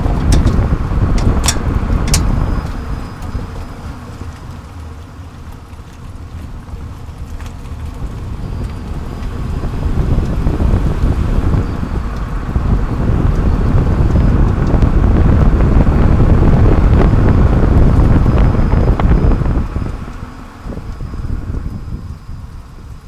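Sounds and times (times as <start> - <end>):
tyre and road rumble: 0.0 - 23.0
wind buffeting: 0.0 - 23.0.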